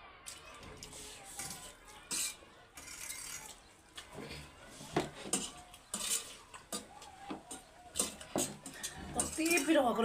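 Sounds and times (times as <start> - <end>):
cutlery clinking on plates: 1.4 - 10.0.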